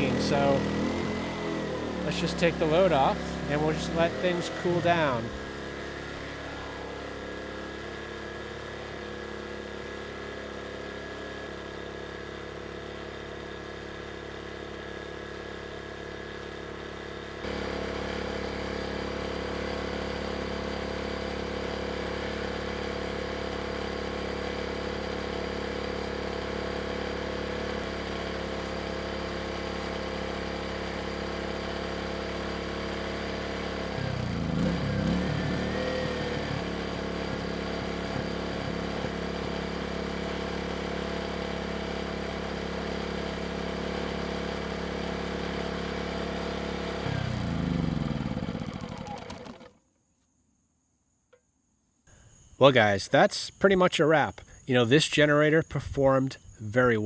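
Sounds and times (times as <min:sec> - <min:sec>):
generator engine running: 0:00.0 - 0:49.8.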